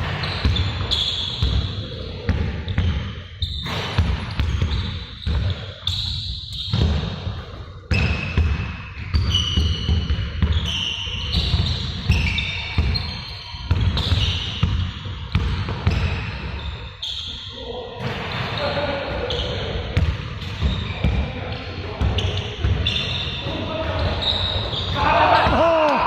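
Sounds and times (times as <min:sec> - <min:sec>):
basketballs bouncing on court: 0:00.0 - 0:16.8, 0:18.0 - 0:26.0.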